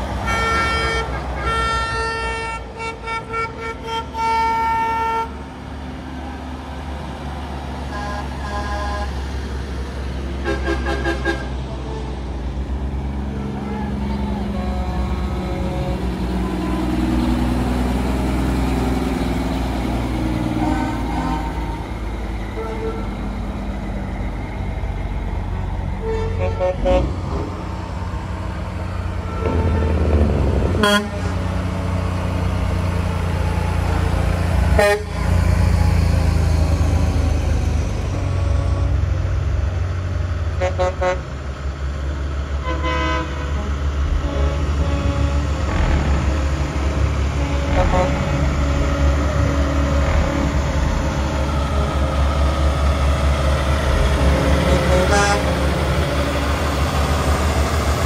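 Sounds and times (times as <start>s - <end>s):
truck horns: 0.0s - 5.6s, 7.8s - 23.6s, 25.8s - 36.2s, 40.5s - 41.5s, 42.6s - 58.0s
diesel trucks rumbling: 0.0s - 58.0s.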